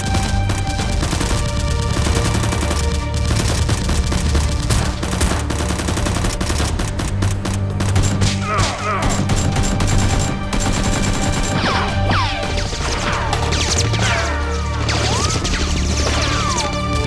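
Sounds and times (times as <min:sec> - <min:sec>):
background music with low bass: 0:00.0 - 0:17.0
rapid gunfire: 0:00.0 - 0:17.0.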